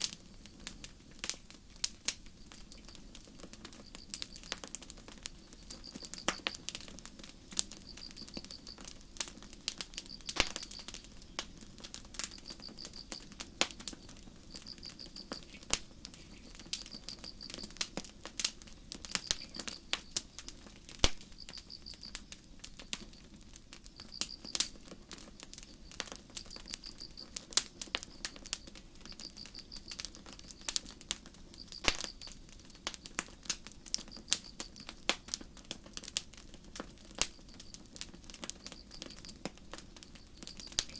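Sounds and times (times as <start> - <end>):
campfire crackling and popping: 0.0 - 40.9
crickets chirping: 1.9 - 35.4, 36.8 - 40.9.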